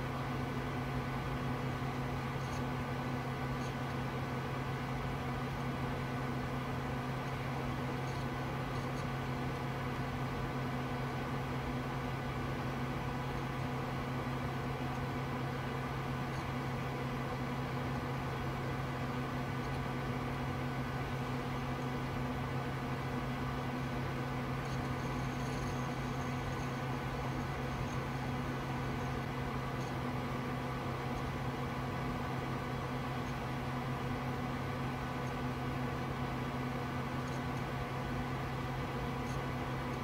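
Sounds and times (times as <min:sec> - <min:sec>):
computer fans whirring: 0:00.0 - 0:40.0
faint whines: 0:00.0 - 0:40.0.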